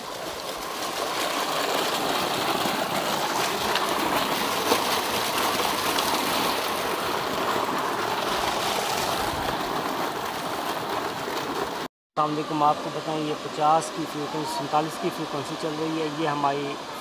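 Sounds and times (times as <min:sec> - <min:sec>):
water gushing into concrete tank: 0:00.0 - 0:17.0.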